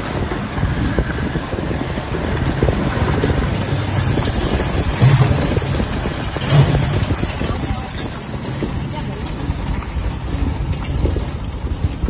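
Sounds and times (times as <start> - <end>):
road noise: 0.0 - 12.0
wind buffeting microphone: 0.0 - 12.0
motorcycle engine running: 2.2 - 12.0.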